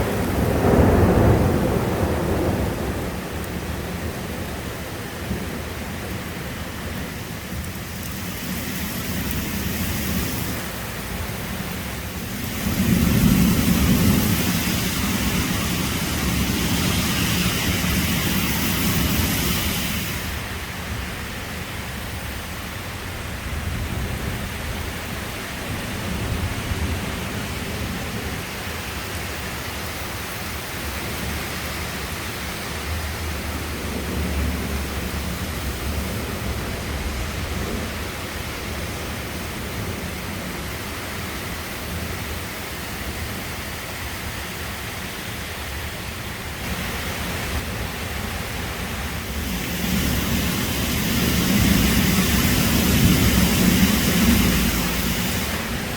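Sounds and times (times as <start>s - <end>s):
heavy rain: 0.0s - 55.9s
strong wind: 0.0s - 55.9s.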